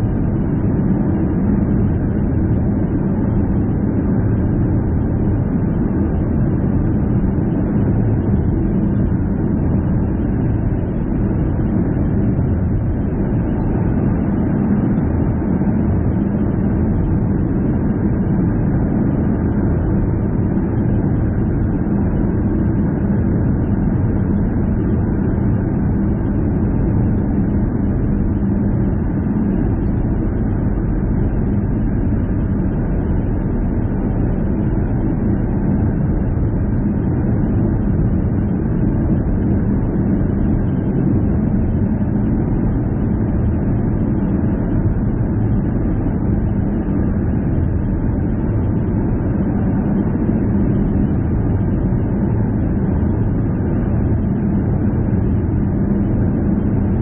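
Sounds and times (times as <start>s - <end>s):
faint constant hum: 0.0s - 57.0s.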